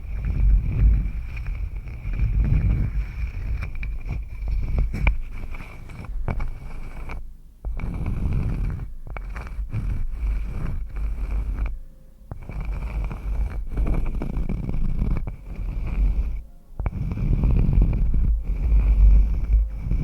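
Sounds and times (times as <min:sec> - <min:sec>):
scratchy rubbing: 0:00.0 - 0:20.0.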